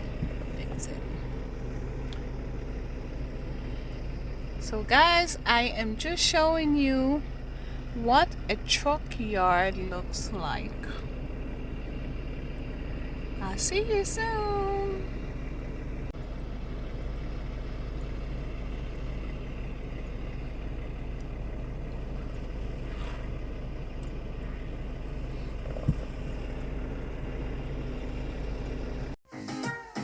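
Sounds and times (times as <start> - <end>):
truck engine idling: 0.0 - 29.2.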